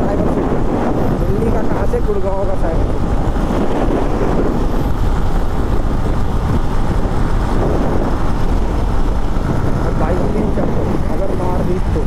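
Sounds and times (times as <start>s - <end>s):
motorcycle running: 0.0s - 12.0s
wind and road noise: 0.0s - 12.0s.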